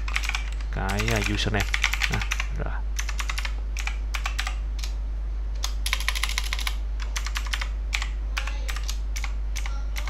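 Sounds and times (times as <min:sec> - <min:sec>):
computer keyboard keystrokes: 0:00.0 - 0:05.0, 0:05.6 - 0:10.0
steady low hum: 0:00.0 - 0:10.0.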